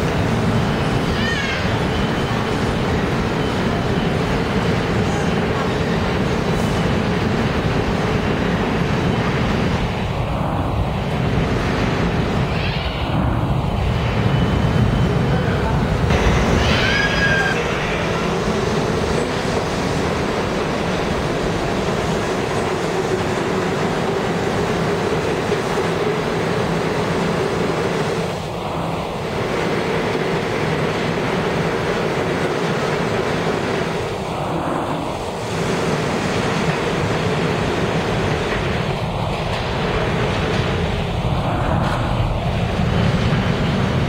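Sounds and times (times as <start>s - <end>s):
subway train wheels rumbling: 0.0s - 44.0s.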